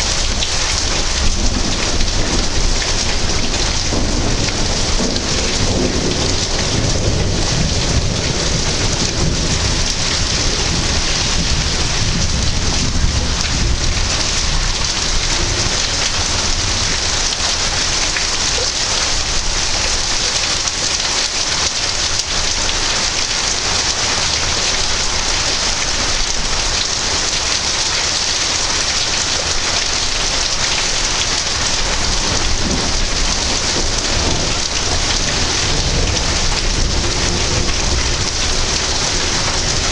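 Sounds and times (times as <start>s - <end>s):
heavy rain falling: 0.0s - 39.9s
low thunder rumbles: 0.0s - 39.9s.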